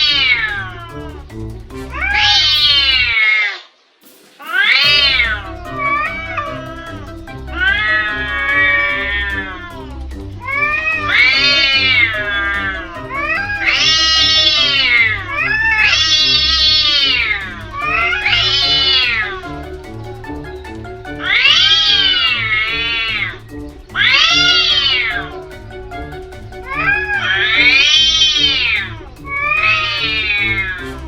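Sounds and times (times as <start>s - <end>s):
cats yowling: 0.0s - 1.2s, 4.6s - 23.4s, 24.0s - 31.0s.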